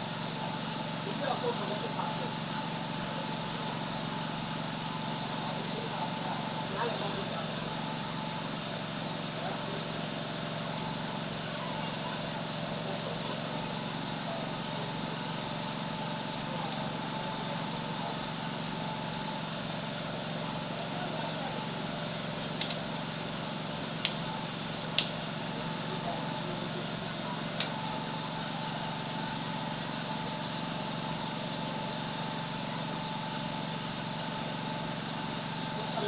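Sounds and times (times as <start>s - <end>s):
constant hum: 0.0s - 36.0s.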